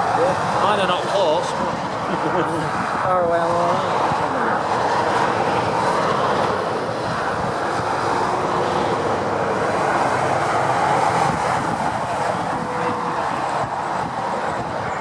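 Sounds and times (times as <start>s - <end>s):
lorry passing: 0.0s - 15.0s
motorway traffic rushing: 0.0s - 15.0s.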